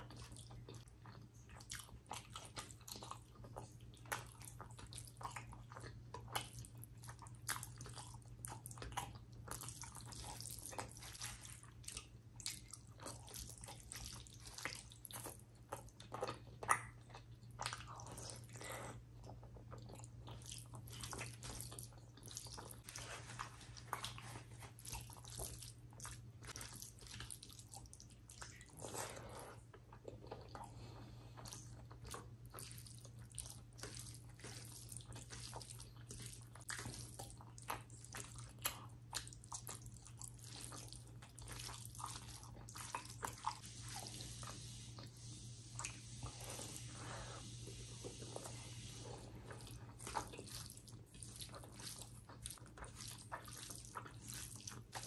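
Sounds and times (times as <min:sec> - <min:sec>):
chewing with wet mouth clicks: 0:00.0 - 0:45.1, 0:49.4 - 0:55.0.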